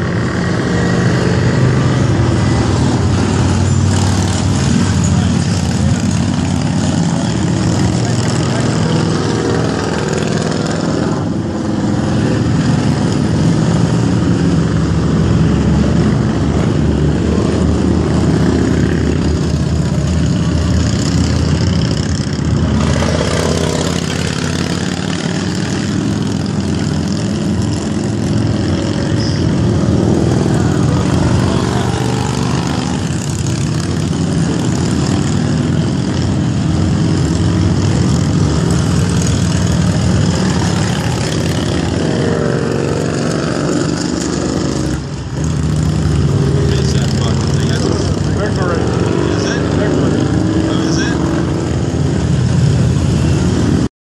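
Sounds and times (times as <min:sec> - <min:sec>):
car passing: 0:00.0 - 0:53.9
motorcycle engines passing: 0:00.0 - 0:53.9.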